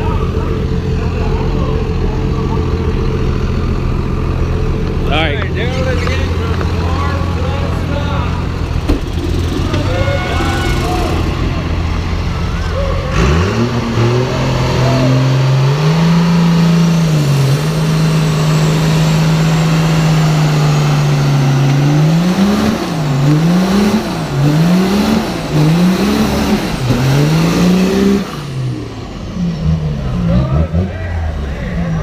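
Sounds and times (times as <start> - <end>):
truck engine revving: 0.0 - 32.0.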